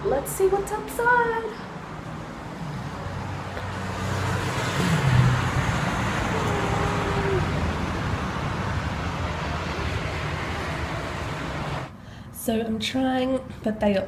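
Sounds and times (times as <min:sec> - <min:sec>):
vehicles passing: 0:00.0 - 0:12.3.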